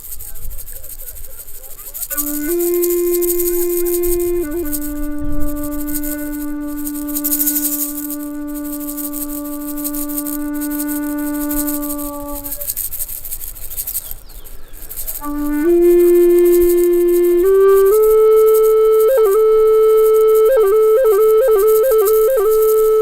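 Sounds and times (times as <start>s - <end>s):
flute notes: 0.0s - 12.9s, 15.1s - 23.0s
faint rattling hiss: 0.0s - 23.0s
steady high hiss: 0.0s - 23.0s.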